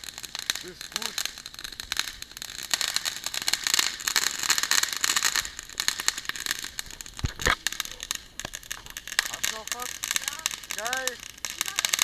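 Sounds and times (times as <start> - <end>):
crackle of small pops: 0.0 - 12.0
firework bangs: 0.0 - 12.0
firework fountain hissing: 0.0 - 12.0.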